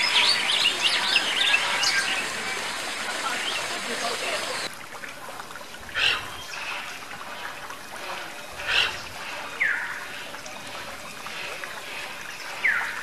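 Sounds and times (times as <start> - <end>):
fountain water trickling: 0.0 - 13.0.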